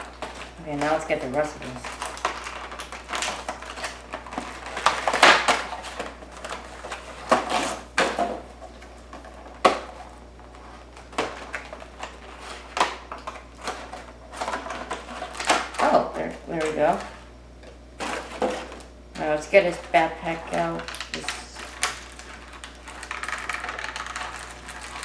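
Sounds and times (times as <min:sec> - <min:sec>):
packaging crackling and rustling: 0:00.0 - 0:17.3, 0:18.0 - 0:19.1, 0:19.7 - 0:25.0.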